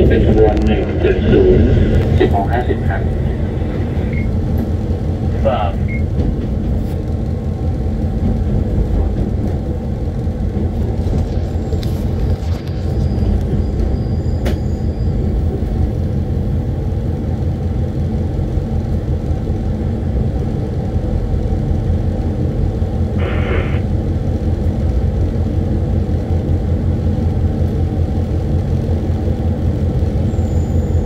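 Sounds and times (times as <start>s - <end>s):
locomotive engine rumble: 0.0s - 31.0s.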